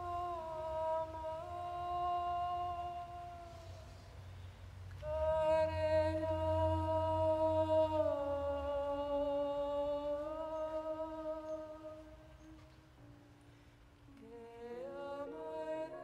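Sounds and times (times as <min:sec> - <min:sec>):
slow music of held notes: 0:00.0 - 0:16.0.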